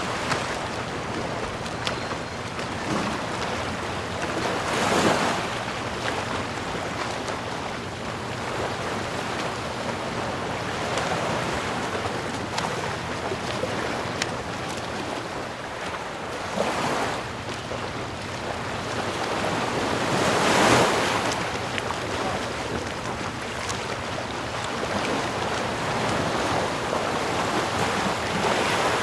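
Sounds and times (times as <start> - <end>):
sea waves washing on shore: 0.0 - 29.0.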